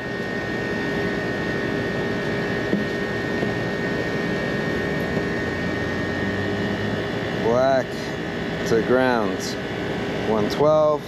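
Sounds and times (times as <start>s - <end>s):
air conditioning units droning: 0.0s - 11.0s.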